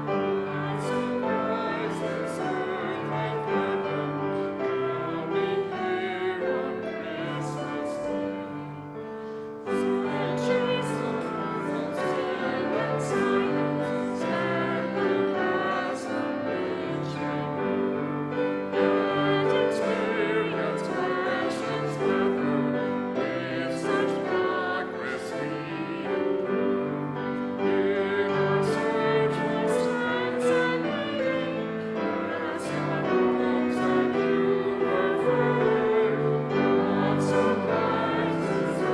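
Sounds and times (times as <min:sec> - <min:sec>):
congregation singing a hymn: 0:00.0 - 0:38.9
keyboard accompaniment: 0:00.0 - 0:38.9.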